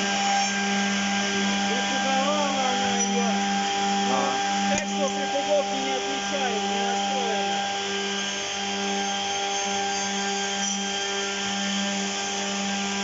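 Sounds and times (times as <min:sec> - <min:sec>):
edge banding machine running: 0:00.0 - 0:13.0.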